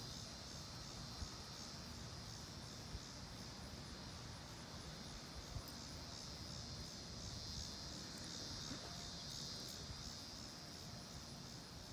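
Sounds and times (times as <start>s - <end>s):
pulsing insect drone: 0.0s - 11.9s.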